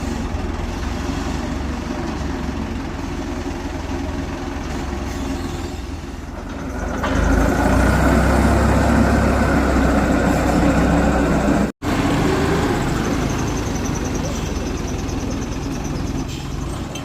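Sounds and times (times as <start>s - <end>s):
heavy machine engine drone: 0.0s - 17.0s.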